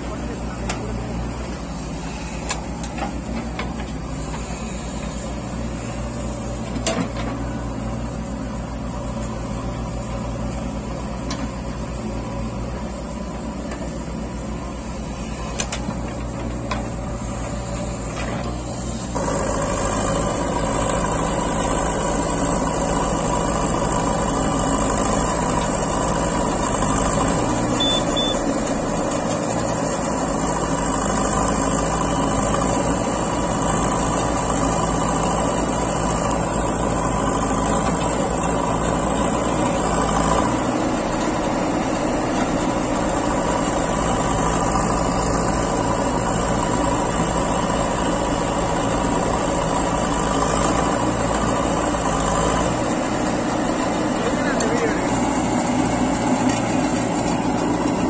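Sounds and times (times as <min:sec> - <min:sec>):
backhoe digging soil: 0:00.0 - 0:58.0
diesel engine running: 0:00.0 - 0:58.0.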